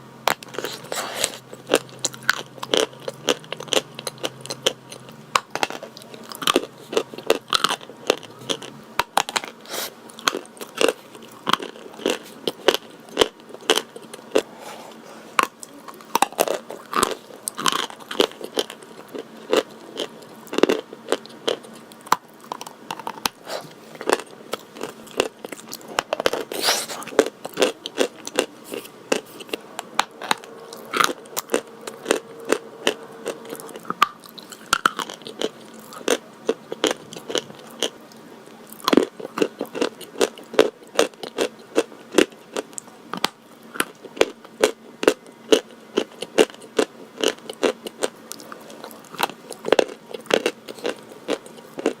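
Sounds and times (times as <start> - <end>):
crunchy chalk chewing: 0.3 - 52.0.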